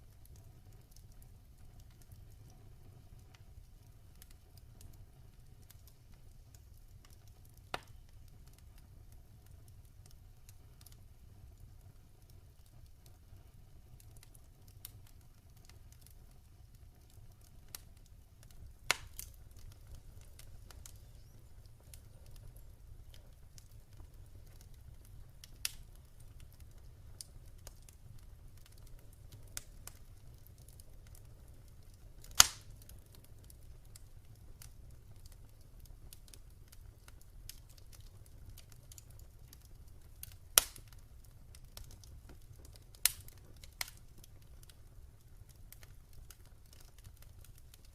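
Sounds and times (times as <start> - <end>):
fire crackling in fireplace: 0.0 - 47.9
sharp pops of fire: 0.3 - 8.9, 14.1 - 44.8.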